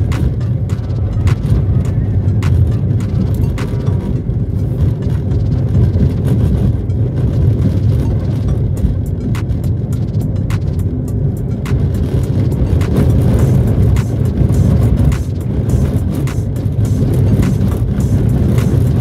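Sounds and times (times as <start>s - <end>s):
car engine and tyres rumbling: 0.0s - 19.0s
car knocking and rattling over bumps: 0.0s - 19.0s.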